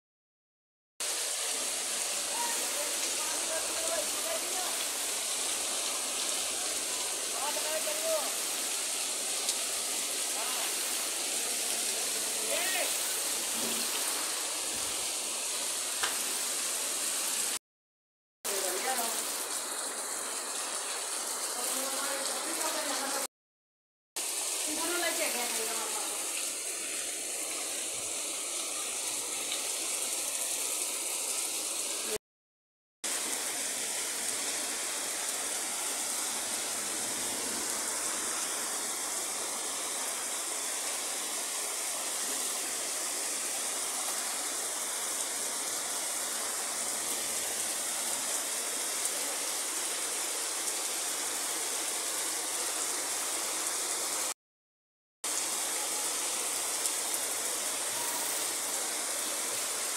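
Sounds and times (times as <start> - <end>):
heavy rain: 1.0 - 17.6, 18.5 - 23.3, 24.2 - 32.2, 33.0 - 54.4, 55.2 - 59.9.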